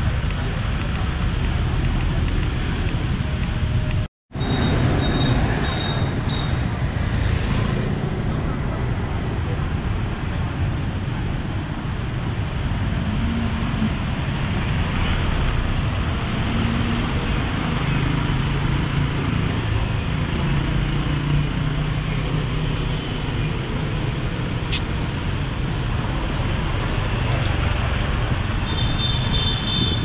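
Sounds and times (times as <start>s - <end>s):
street traffic: 0.0s - 30.0s.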